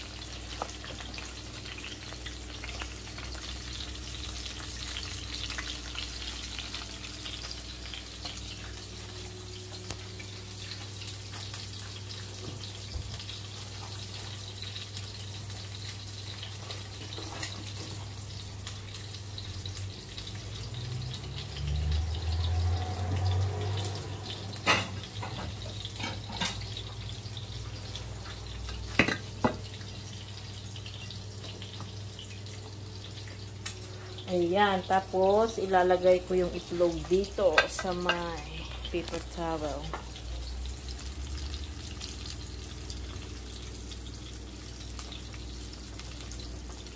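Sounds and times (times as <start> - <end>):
eggs sizzling in a pan: 0.0 - 46.9.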